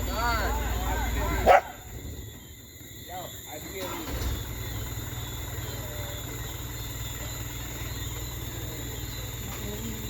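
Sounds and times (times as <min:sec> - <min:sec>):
insects trilling: 0:00.0 - 0:10.0
truck engine idling: 0:00.0 - 0:10.0.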